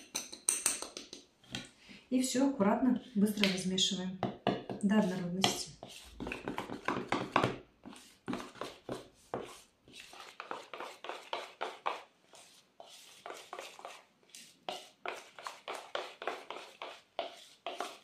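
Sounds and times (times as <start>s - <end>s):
metal spoon stirring in plastic bowl: 2.3s - 18.0s.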